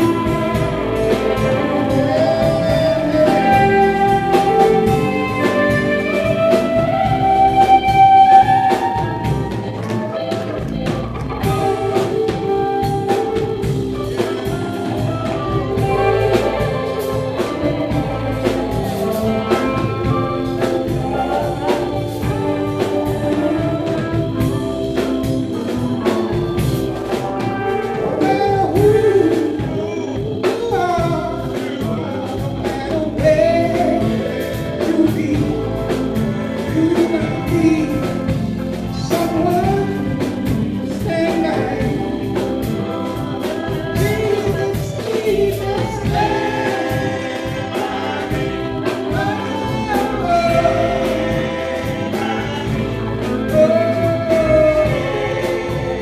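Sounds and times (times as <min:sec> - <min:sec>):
drums: 0:00.0 - 0:56.0
instrumental accompaniment: 0:00.0 - 0:56.0
person singing: 0:00.0 - 0:56.0.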